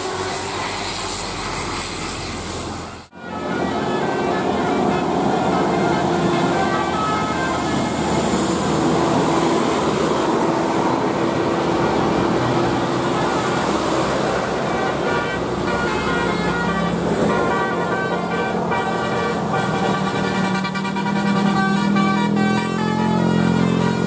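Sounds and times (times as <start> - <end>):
musical air horn: 0.0 - 11.8, 13.2 - 24.0
engine and traffic noise: 0.0 - 24.0.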